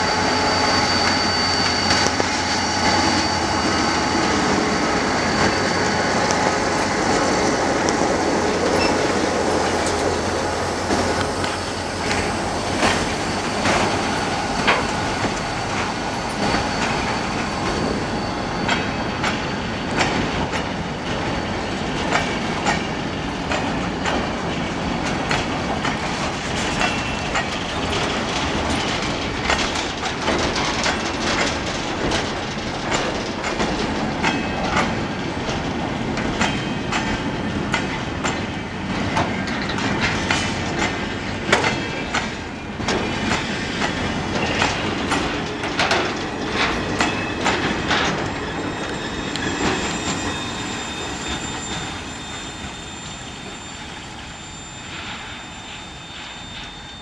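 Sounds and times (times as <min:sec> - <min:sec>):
high wheel squeal: 0:00.0 - 0:31.6, 0:40.9 - 0:57.0.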